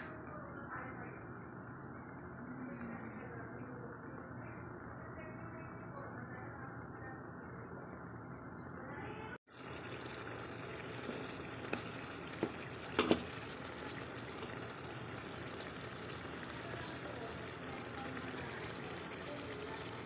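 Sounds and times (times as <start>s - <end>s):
curry bubbling in a pot: 0.0s - 20.0s.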